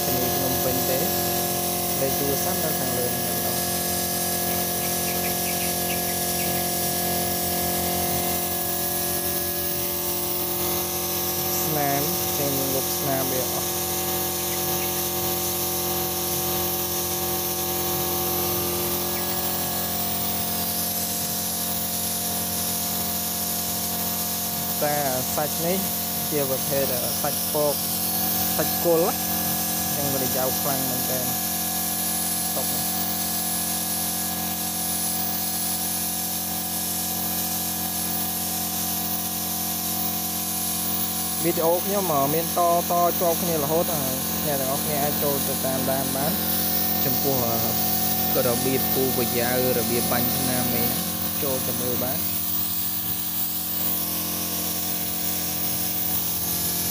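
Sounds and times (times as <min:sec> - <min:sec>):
paint spray gun hissing: 0:00.0 - 0:56.9
steady machine hum: 0:00.0 - 0:56.9.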